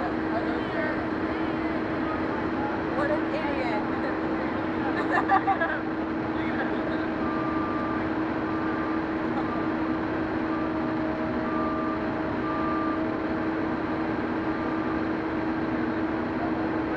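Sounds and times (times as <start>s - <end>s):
fire engine motor running: 0.0s - 16.9s.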